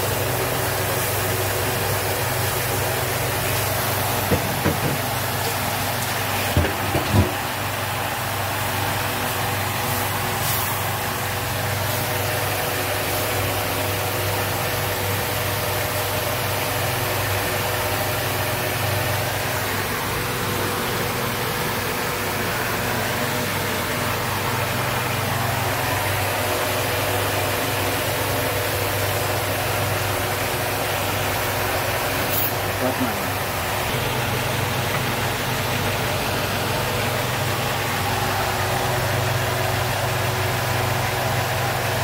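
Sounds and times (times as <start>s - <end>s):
cooking burner roaring: 0.0s - 42.0s.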